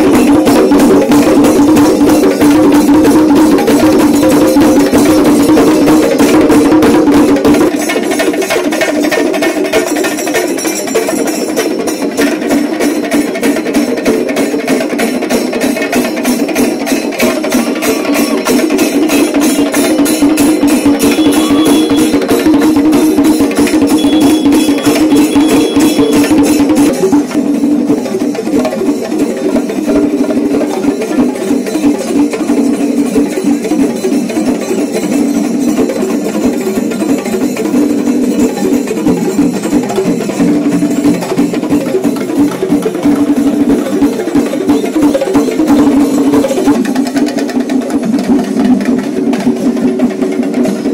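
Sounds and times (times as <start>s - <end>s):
drums beaten in fast rhythm: 0.0s - 50.9s.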